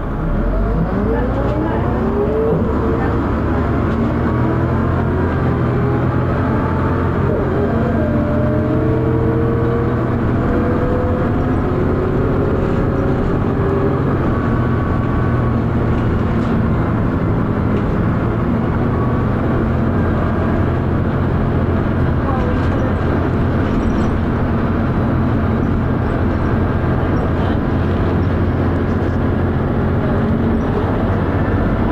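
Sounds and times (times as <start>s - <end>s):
bus engine thrash and whine: 0.0s - 31.9s.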